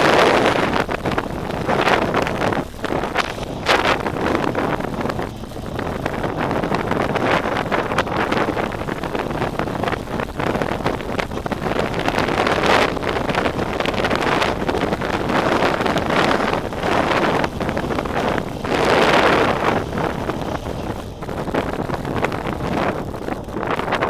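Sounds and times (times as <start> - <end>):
motorcycle running: 0.0 - 24.0
wind rushing over microphone: 0.0 - 24.0.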